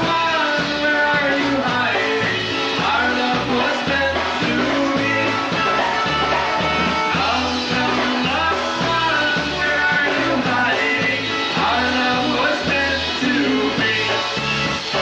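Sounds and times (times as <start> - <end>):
bouncing bass line: 0.0 - 15.0
polka band playing: 0.0 - 15.0.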